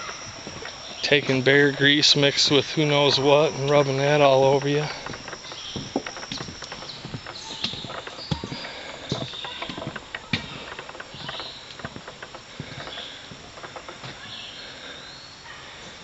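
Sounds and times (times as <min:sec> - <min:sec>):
footsteps on a trail: 0:00.0 - 0:15.0
rustling: 0:00.0 - 0:15.0
insects chirping: 0:00.0 - 0:16.0.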